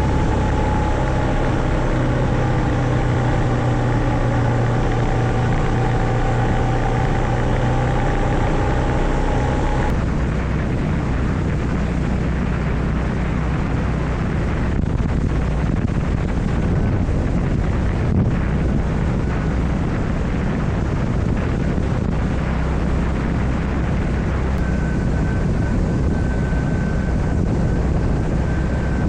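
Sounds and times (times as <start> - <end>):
motorcycle engine cruising: 0.0 - 29.0
road rumble: 0.0 - 29.0
rushing wind: 0.0 - 29.0.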